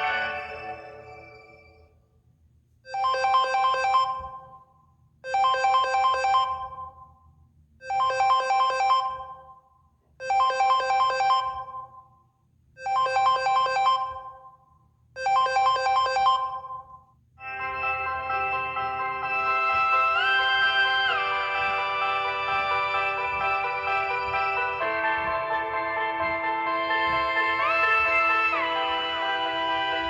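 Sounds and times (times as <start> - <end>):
electronic phone ringtone: 0.0 - 1.8, 2.9 - 4.5, 5.3 - 6.9, 7.9 - 9.5, 10.3 - 11.9, 12.8 - 14.5, 15.2 - 30.0.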